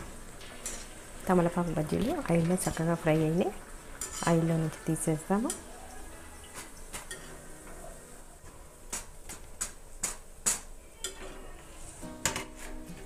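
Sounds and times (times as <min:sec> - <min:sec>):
faint hiss of frying oil: 0:00.0 - 0:13.0.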